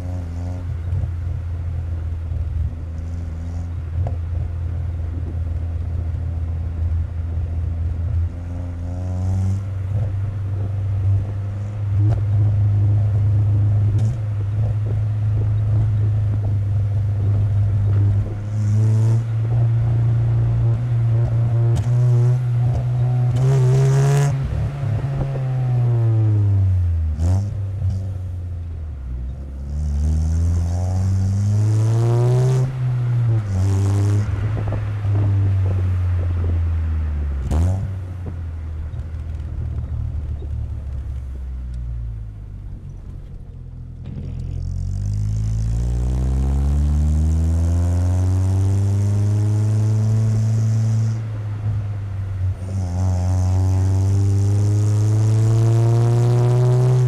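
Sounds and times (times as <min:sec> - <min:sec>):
car exhaust while driving: 0:00.0 - 0:57.0.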